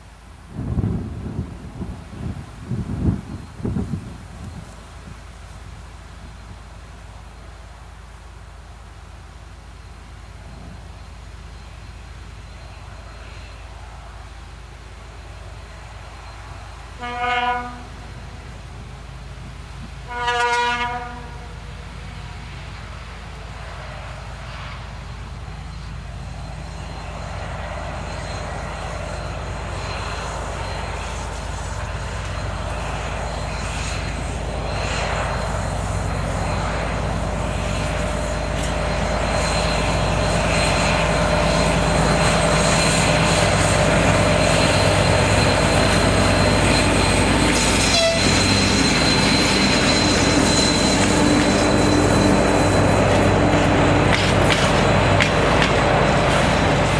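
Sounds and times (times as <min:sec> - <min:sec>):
diesel locomotive rumble: 0:00.0 - 0:56.9.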